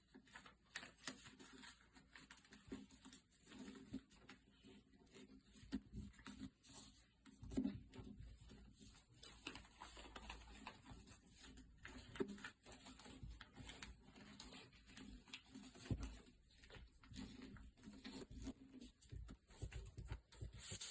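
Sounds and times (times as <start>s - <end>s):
paper rustling and creasing: 0.0s - 20.9s.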